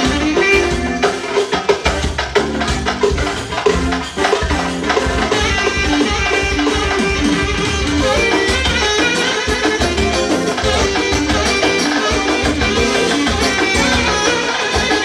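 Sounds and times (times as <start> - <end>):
loud music with drum beat: 0.0 - 15.0.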